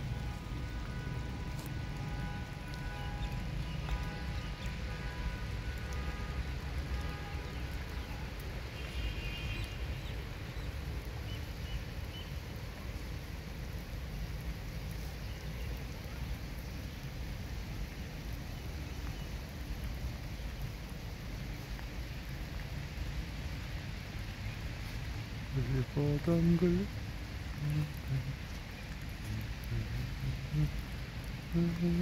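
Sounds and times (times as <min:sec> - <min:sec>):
light rain hissing: 0:00.0 - 0:32.0.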